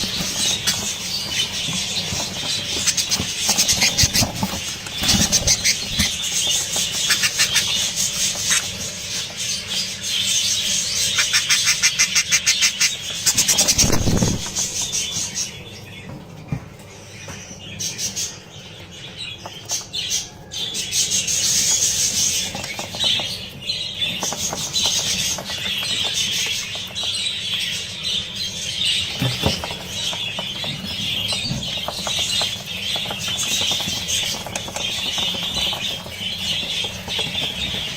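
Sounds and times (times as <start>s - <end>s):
budgerigar chicks chattering: 0.0s - 37.9s.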